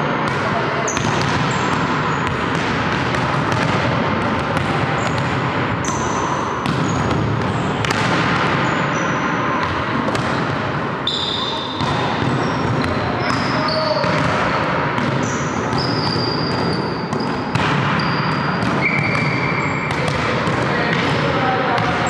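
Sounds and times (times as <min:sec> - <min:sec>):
volleyballs struck and bouncing: 0:00.0 - 0:22.0.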